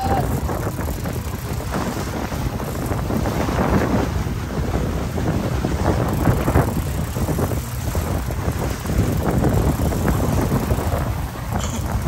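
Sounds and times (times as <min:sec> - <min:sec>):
rushing water of boat wake: 0:00.0 - 0:12.0
steady low rumble: 0:00.0 - 0:12.0
wind buffeting microphone: 0:00.0 - 0:12.0.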